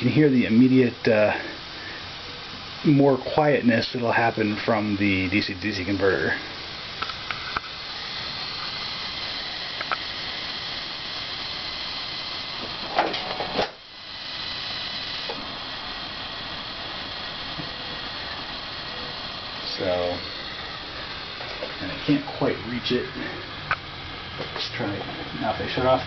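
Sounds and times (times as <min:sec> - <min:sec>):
power converter hissing: 0:00.0 - 0:26.0.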